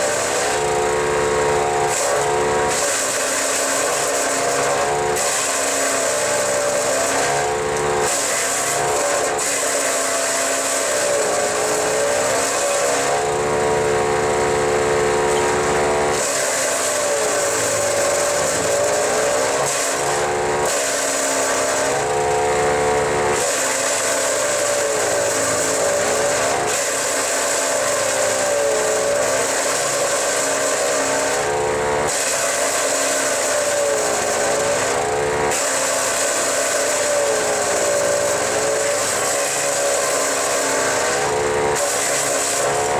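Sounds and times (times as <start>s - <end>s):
wood chipper engine: 0.0s - 42.9s
wood being chipped: 1.6s - 42.9s.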